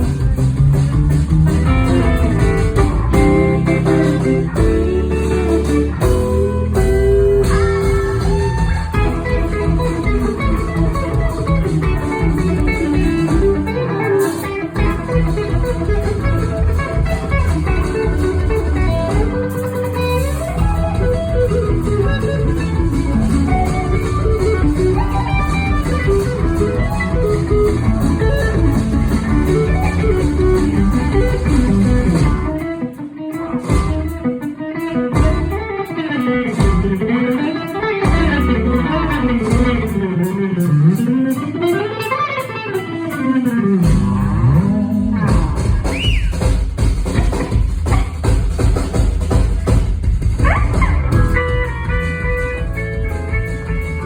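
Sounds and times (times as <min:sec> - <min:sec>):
electric guitar sliding notes: 0:00.0 - 0:46.0
live band music: 0:00.0 - 0:54.0.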